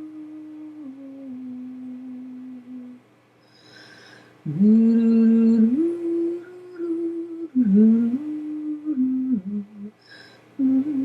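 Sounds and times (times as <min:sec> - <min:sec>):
person humming a lullaby: 0:00.0 - 0:11.0.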